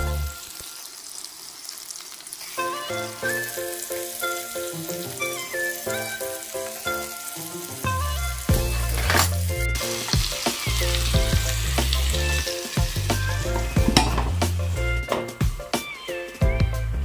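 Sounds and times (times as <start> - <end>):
background music: 0.0 - 0.6, 2.5 - 17.0
fish and onions sizzling in oil: 0.0 - 16.4.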